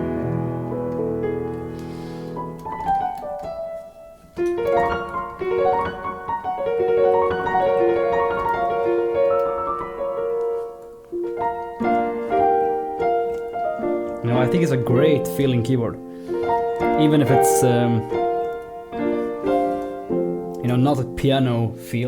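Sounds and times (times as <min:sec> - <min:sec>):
piano playing chords and melody: 0:00.0 - 0:22.0.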